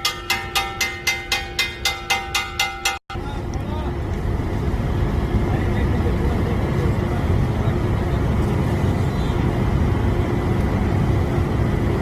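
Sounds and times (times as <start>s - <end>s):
constant hum: 0.0s - 12.0s
locomotive rumbling: 0.0s - 12.0s.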